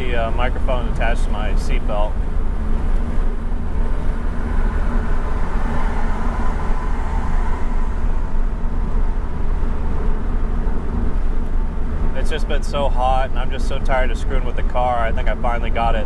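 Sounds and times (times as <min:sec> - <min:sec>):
road and wind noise: 0:00.0 - 0:16.0
sports car engine drone: 0:00.0 - 0:16.0.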